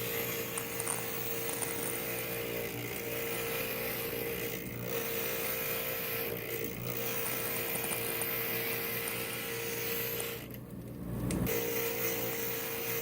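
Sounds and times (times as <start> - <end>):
glass grinding: 0.0 - 10.6
grinder motor hum: 0.0 - 13.0.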